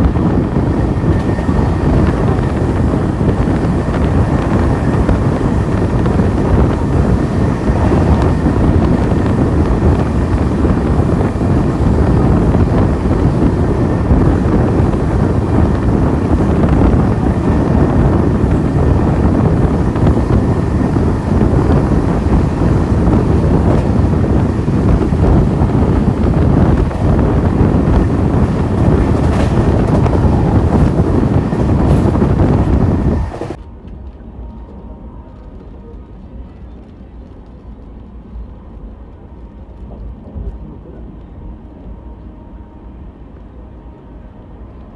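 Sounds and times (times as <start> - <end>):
train running rumble: 0.0 - 44.9
wind buffeting microphone: 0.0 - 44.9.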